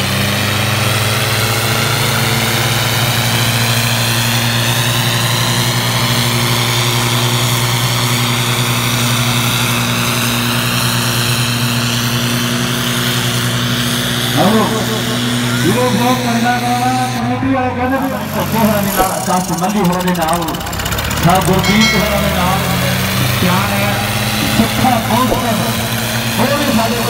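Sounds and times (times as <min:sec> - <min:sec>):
diesel tractor engines droning: 0:00.0 - 0:27.0.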